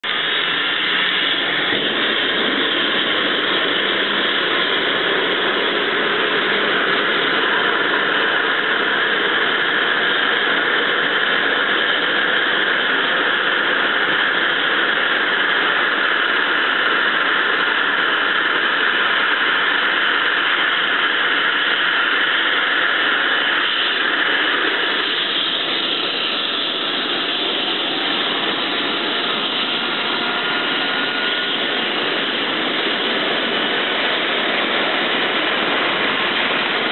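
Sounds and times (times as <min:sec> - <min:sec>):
helicopter turbine whine: 0:00.0 - 0:36.9.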